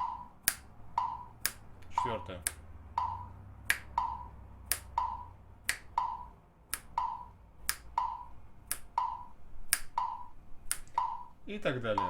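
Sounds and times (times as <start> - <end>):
finger snap: 0.0 - 11.4
metronome clicks: 0.0 - 12.0.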